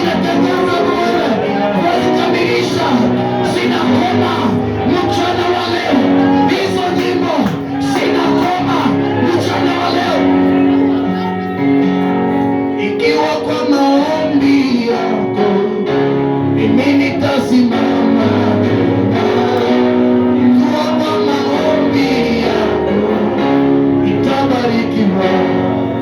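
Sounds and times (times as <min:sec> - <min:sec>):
singing: 0:00.0 - 0:15.9, 0:16.5 - 0:26.0
guitar-led band playing: 0:00.0 - 0:26.0.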